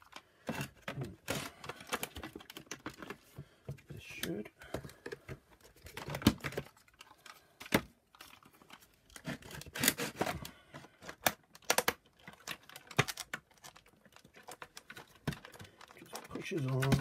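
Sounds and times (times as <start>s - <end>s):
plastic parts clicking and knocking: 0.0s - 17.0s.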